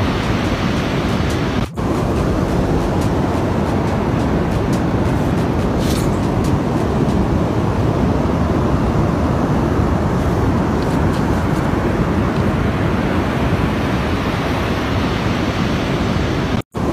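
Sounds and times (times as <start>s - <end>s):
surf on a beach: 0.0s - 16.9s
wind: 0.0s - 16.9s.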